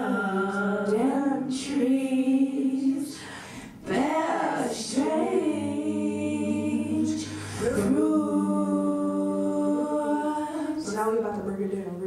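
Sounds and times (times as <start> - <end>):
women singing a cappella harmony: 0.0 - 11.5.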